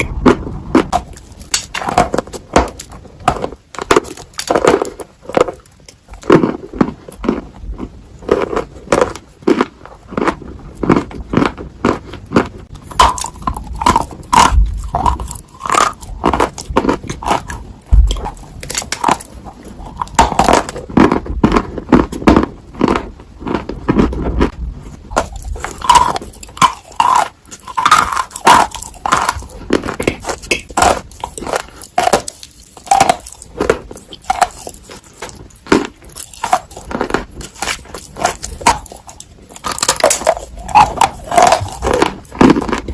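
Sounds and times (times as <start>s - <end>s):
chewing crunchy clay: 0.0s - 42.9s.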